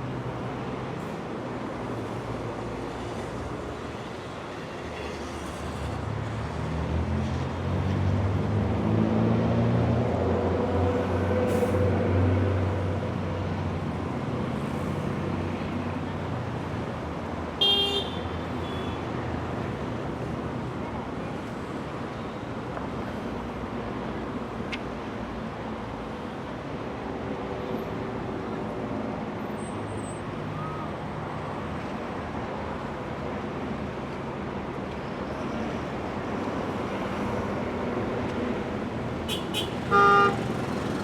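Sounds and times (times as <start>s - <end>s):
passing traffic: 0.0s - 41.0s.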